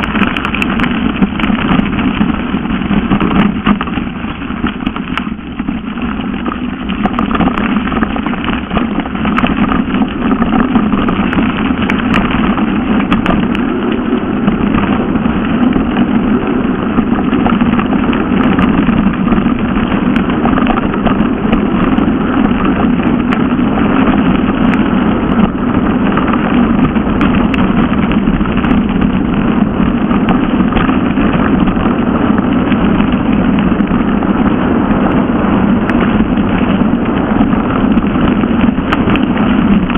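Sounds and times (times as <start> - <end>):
bike tyres rolling over gravel: 0.0 - 39.9
small rattles and clicks: 0.0 - 39.9
wind on microphone: 0.0 - 39.9.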